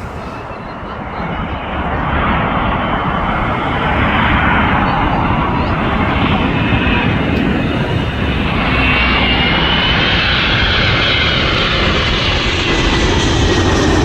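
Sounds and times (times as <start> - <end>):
high engine whine: 0.0 - 14.0
jet airliner passing overhead: 0.0 - 14.0.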